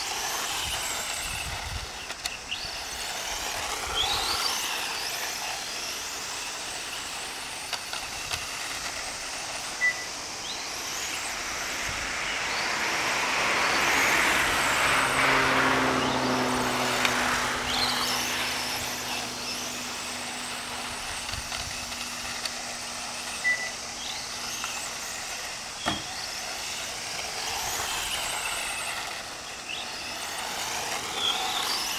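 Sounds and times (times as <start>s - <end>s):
rc car motor whine: 0.0s - 31.9s.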